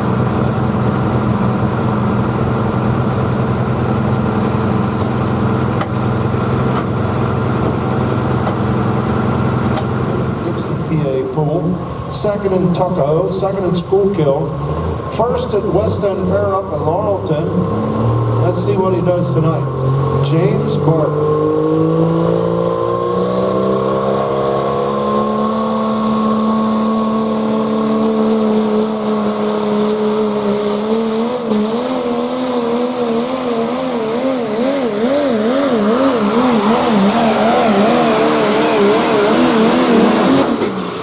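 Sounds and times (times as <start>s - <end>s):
diesel truck engine at full throttle: 0.0s - 41.0s.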